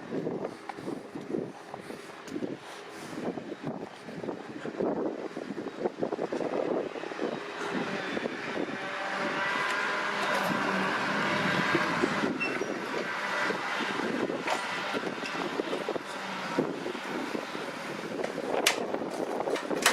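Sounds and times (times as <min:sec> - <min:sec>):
tractor diesel engine under load: 0:00.0 - 0:19.9
wind buffeting microphone: 0:00.0 - 0:19.9.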